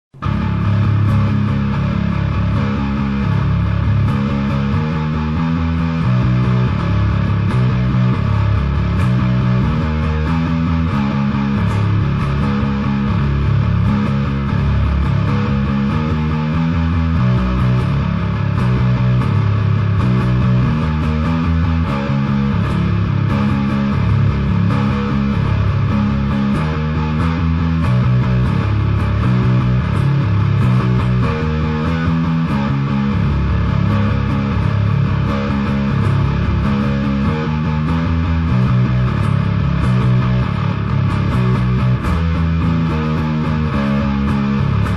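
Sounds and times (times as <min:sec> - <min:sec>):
electric bass guitar riff: 0:00.0 - 0:44.9
instrumental rock music: 0:00.1 - 0:44.9.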